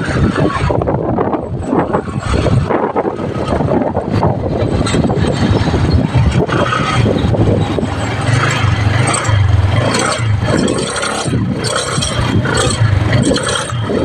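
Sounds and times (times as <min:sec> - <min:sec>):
motorcycle engine humming: 0:00.0 - 0:14.0
wind buffeting microphone: 0:00.0 - 0:14.0.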